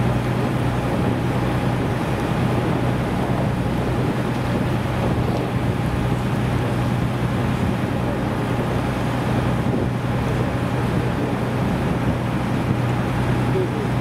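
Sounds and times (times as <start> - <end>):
boat motor humming: 0.0 - 14.0
water noise: 0.0 - 14.0
wind: 0.0 - 14.0.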